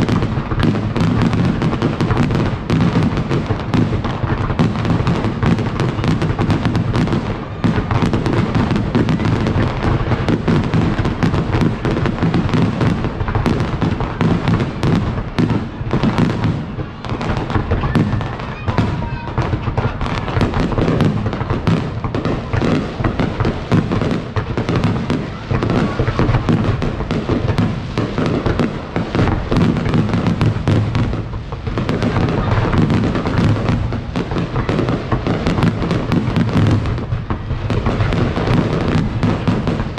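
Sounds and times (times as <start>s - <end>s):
deep fireworks booms: 0.0s - 39.9s
fireworks bursting and crackling: 0.0s - 39.9s.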